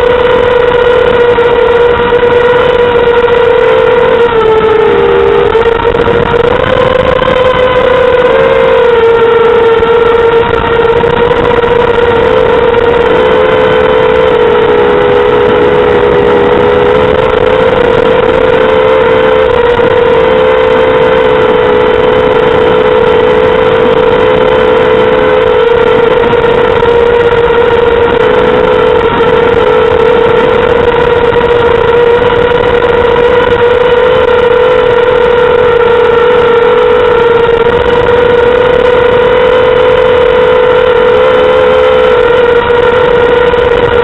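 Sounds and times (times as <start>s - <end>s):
drone propellers whining: 0.0s - 44.0s.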